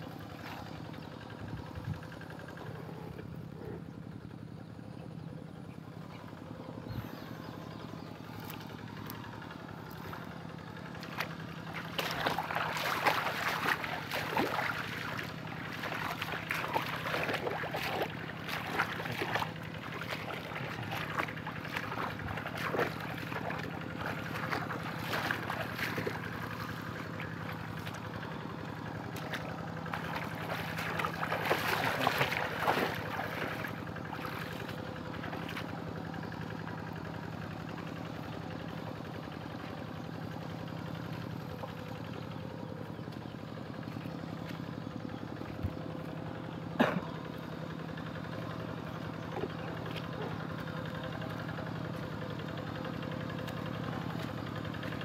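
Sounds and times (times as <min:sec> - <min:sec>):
hand tractor engine running: 0:05.6 - 0:55.0
splashing of water and mud: 0:08.3 - 0:37.7, 0:39.8 - 0:55.0.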